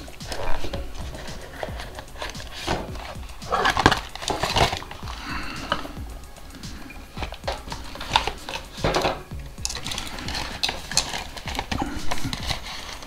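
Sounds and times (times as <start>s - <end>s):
cardboard and plastic rustling: 0.0s - 13.0s.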